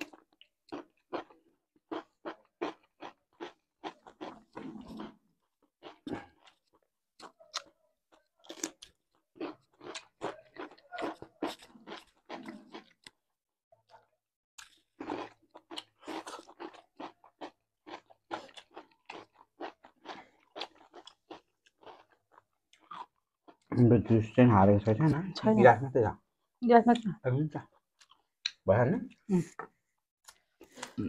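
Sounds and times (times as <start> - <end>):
people chewing and crunching food: 0.0 - 25.7, 26.3 - 31.0.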